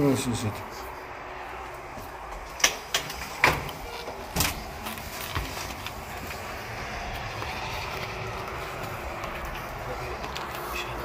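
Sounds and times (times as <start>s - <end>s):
knocks and scuffs of climbing: 1.5s - 11.0s.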